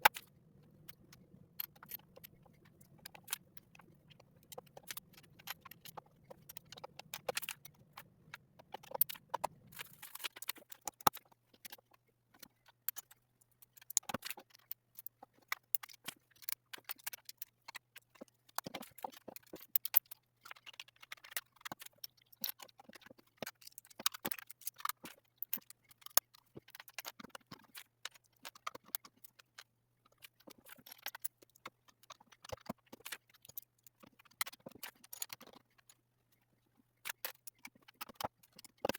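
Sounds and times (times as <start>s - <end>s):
plastic bricks clicking and rattling: 0.0s - 36.0s, 37.0s - 38.9s.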